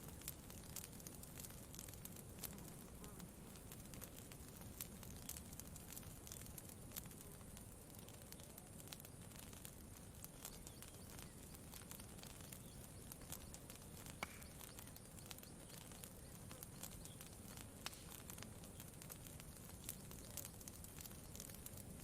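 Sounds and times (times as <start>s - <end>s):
campfire crackling: 0.0s - 22.0s
low background noise: 0.0s - 22.0s.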